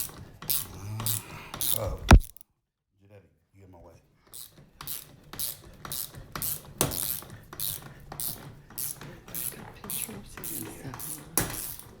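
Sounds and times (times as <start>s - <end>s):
screwdriver turning screw: 0.0s - 2.4s, 4.4s - 12.0s.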